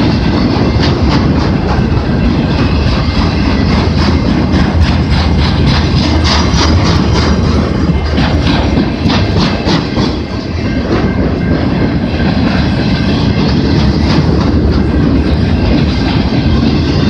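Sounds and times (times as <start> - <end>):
freight train rumbling past: 0.0 - 17.0
wheels clicking over rail joints: 0.0 - 17.0.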